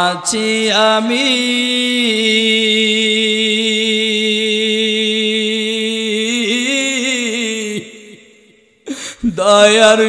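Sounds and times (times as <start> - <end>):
man chanting through microphone: 0.0 - 8.3, 9.2 - 10.0.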